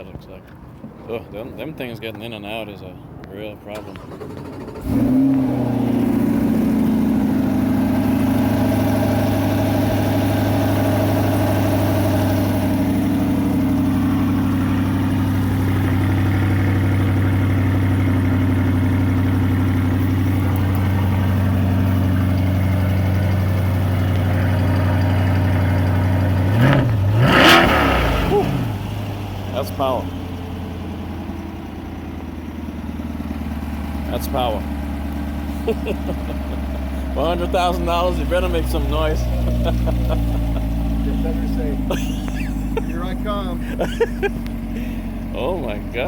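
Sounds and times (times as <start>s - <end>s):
car engine idling fast: 3.8s - 46.0s.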